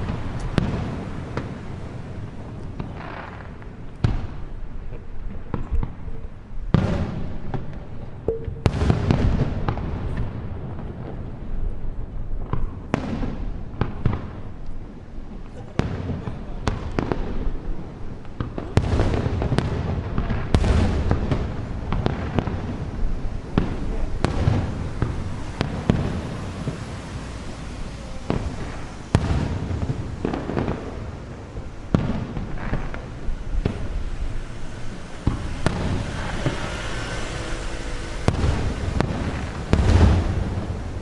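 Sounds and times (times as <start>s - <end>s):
firework shell bursts echoing: 0.0s - 11.3s, 15.8s - 41.0s.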